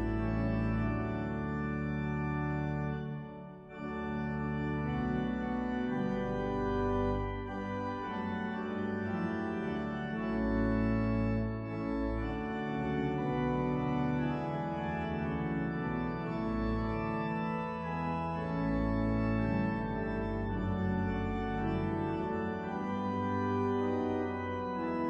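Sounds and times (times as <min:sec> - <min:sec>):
organ playing slow chords: 0:00.0 - 0:25.0.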